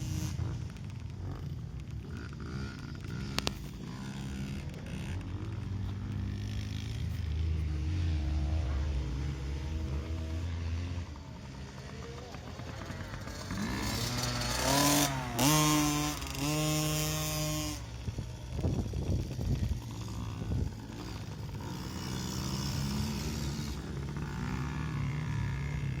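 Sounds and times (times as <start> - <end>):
minibike engine revving: 0.0 - 26.0.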